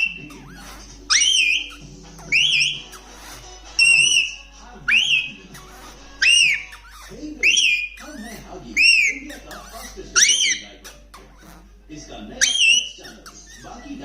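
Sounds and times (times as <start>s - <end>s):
parrot whistling: 0.0s - 11.6s, 12.4s - 14.0s.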